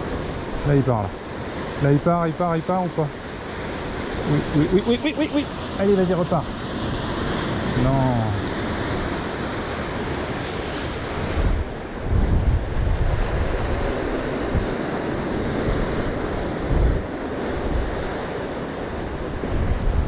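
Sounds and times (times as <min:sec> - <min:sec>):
wind buffeting microphone: 0:03.6 - 0:20.0.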